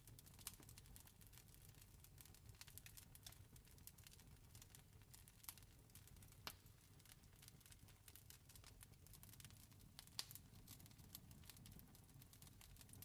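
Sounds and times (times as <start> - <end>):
campfire crackling: 0.1 - 13.0.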